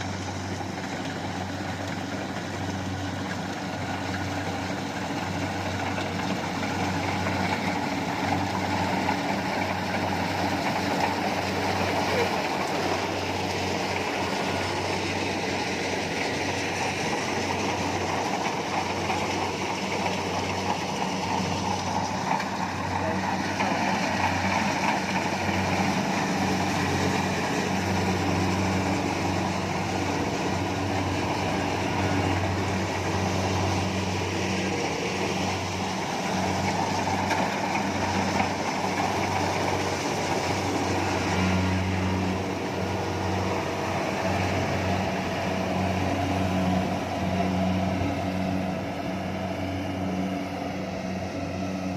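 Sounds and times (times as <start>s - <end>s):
threshing machinery clatter: 0.0s - 48.8s
combine harvester engine hum: 0.0s - 51.9s.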